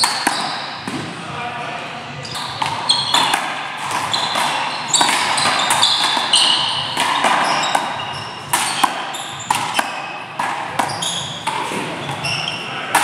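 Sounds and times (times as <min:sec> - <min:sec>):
sneakers squeaking on court floor: 0:00.0 - 0:01.0, 0:02.1 - 0:13.0.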